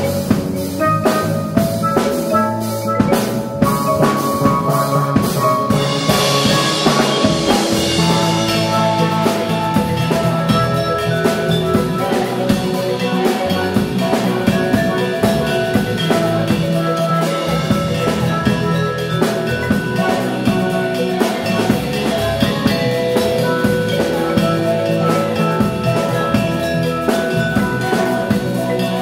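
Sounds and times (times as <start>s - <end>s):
drum kit groove: 0.0s - 29.0s
marimba melodies: 0.0s - 29.0s.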